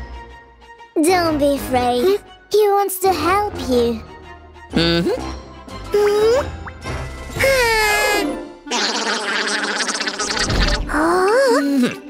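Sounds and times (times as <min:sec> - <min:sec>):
cartoon soundtrack music: 0:00.0 - 0:12.0.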